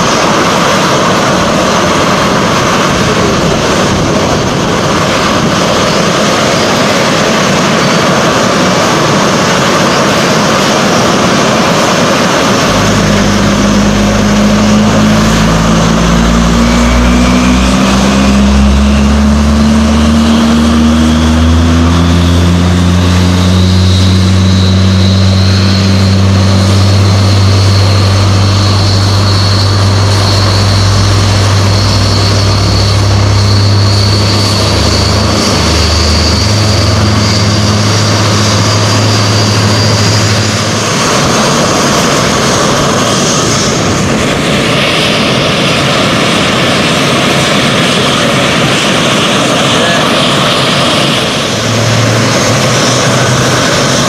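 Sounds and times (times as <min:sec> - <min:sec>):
jet engine whine rising: 0:00.0 - 0:54.0
deep engine hum: 0:08.2 - 0:54.0.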